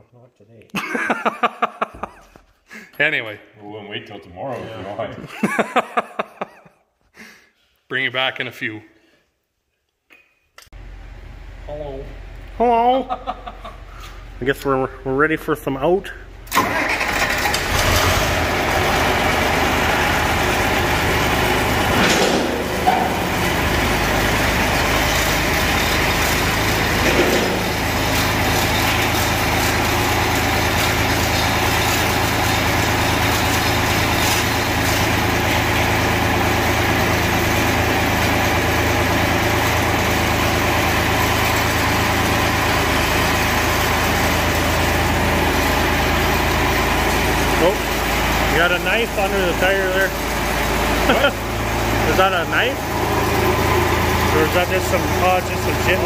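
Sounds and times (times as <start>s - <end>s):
vehicle engine running: 10.8s - 56.0s.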